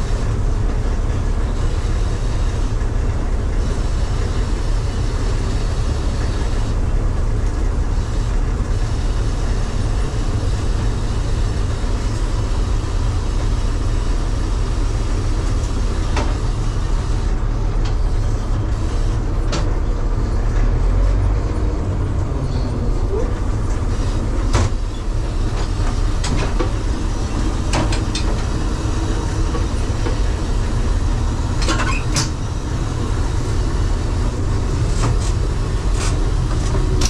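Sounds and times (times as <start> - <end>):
farm machinery engine rumble: 0.0 - 37.0.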